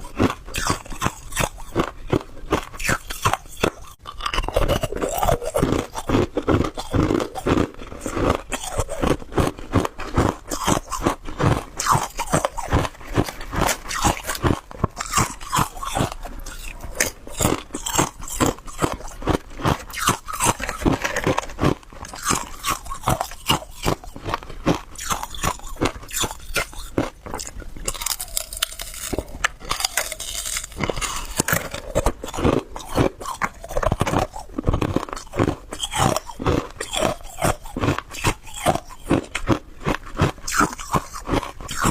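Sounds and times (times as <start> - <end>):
ice being chewed: 0.0 - 41.9.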